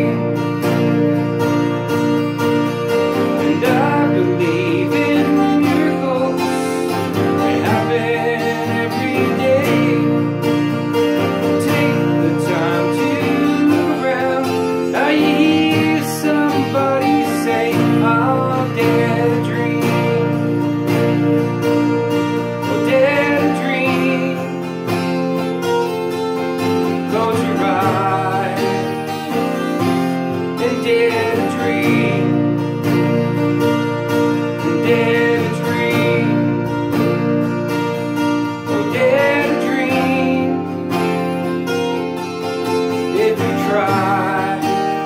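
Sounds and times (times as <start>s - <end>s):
acoustic guitar strumming chords: 0.0s - 45.0s.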